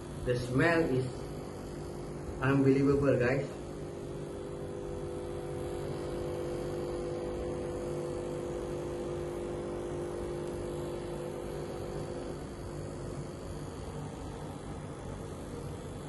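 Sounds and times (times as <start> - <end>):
coffee machine pump humming: 0.0 - 16.0.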